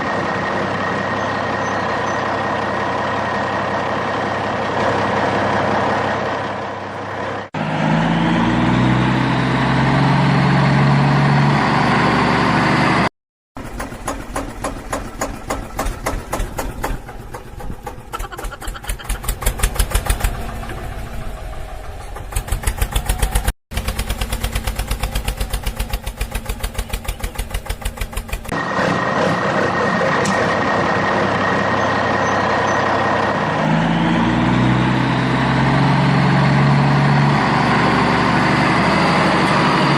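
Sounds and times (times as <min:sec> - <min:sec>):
engine running: 0:00.0 - 0:39.9
fast even engine pulsing: 0:07.4 - 0:39.9.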